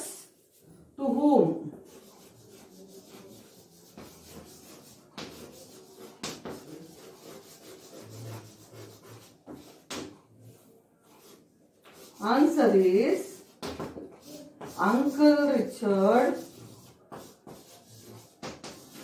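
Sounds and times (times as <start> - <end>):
chalk scratching on blackboard: 0.0 - 0.7, 1.6 - 19.0
chalk tapping on board: 1.7 - 10.3, 11.0 - 19.0.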